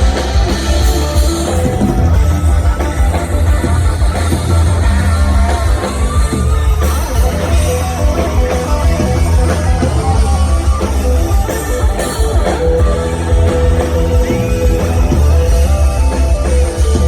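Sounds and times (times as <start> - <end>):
bass guitar: 0.0 - 17.0
drum kit: 0.0 - 17.0
electric guitar lines: 0.0 - 17.0.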